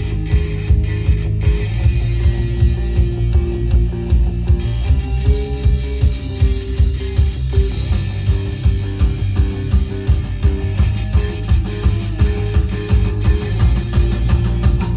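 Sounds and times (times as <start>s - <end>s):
bass guitar: 0.0s - 14.9s
drum beat with cymbals: 0.0s - 14.9s
electric guitars: 0.0s - 14.9s.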